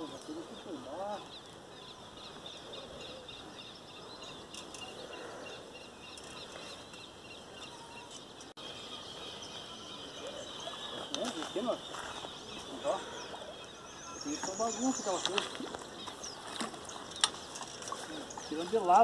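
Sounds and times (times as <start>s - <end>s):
birds chirping: 0.0s - 19.0s
faint outdoor haze: 0.0s - 19.0s.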